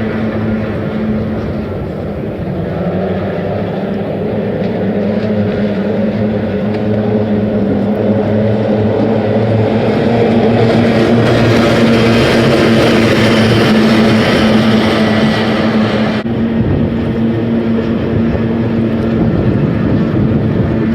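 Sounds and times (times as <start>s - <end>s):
outboard engines droning: 0.0s - 20.9s.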